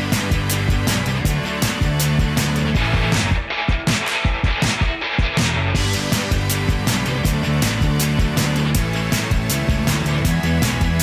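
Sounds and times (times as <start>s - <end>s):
upbeat rock music: 0.0s - 11.0s.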